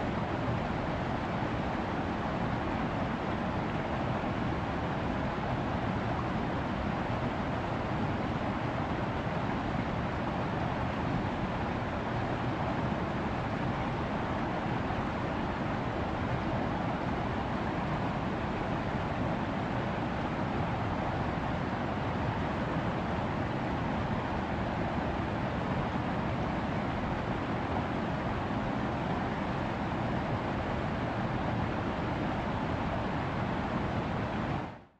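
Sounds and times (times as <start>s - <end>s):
stream rushing over boulders: 0.0s - 34.8s.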